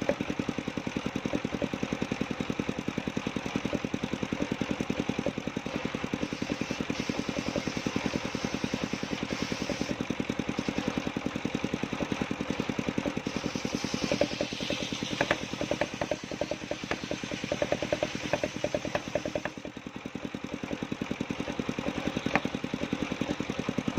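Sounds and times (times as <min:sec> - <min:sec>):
circular saw engine running: 0:00.0 - 0:23.9.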